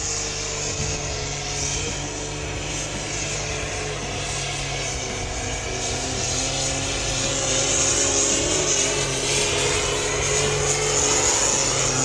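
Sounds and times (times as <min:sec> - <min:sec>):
high engine whine: 0:00.0 - 0:12.0.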